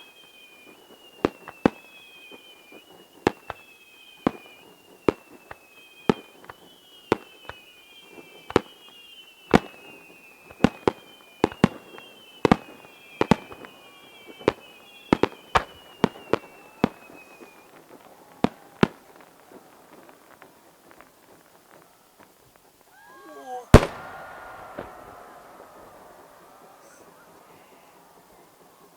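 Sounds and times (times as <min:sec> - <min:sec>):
fireworks bangs: 0:00.0 - 0:28.9
high falling firework whistles: 0:00.0 - 0:28.9.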